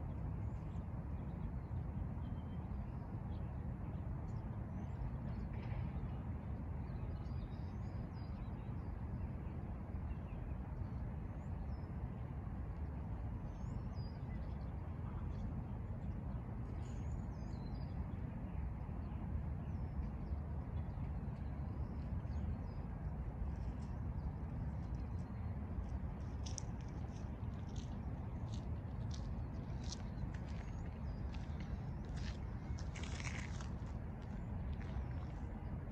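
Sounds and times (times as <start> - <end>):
low outdoor rumble: 0.0 - 35.9.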